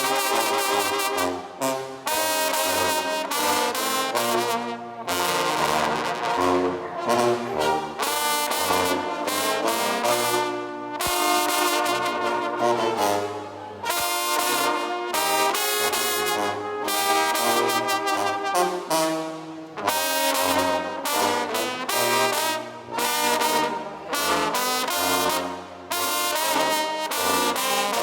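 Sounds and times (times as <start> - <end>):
brass band playing: 0.0 - 28.0.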